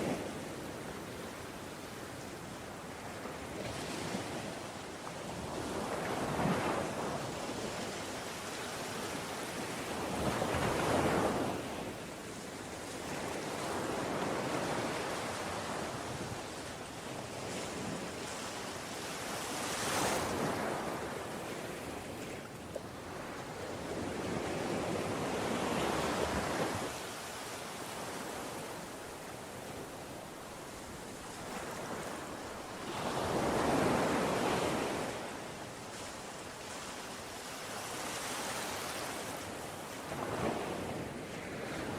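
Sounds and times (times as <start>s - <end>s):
ocean waves breaking on shore: 0.0s - 41.9s.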